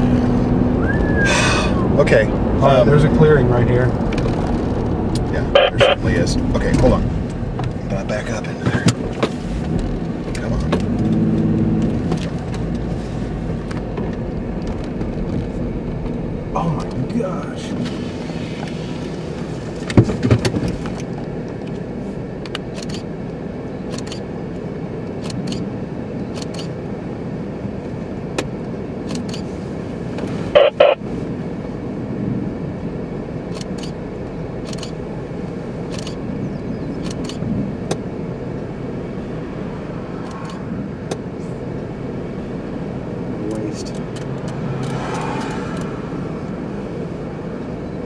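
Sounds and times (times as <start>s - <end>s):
car engine low rumble: 0.0s - 48.0s.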